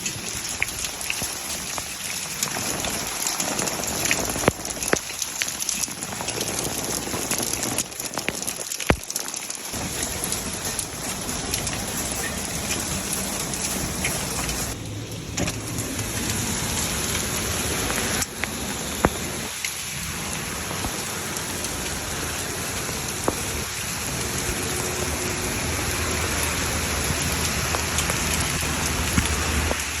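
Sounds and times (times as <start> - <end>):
hailstones cracking on hard surfaces: 0.0 - 24.9
hail pattering: 0.0 - 30.0.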